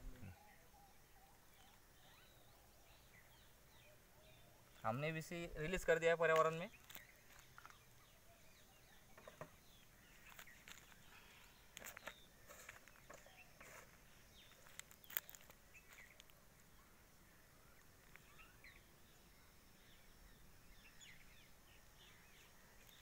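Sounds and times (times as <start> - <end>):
faint bird chirps: 0.0 - 23.0.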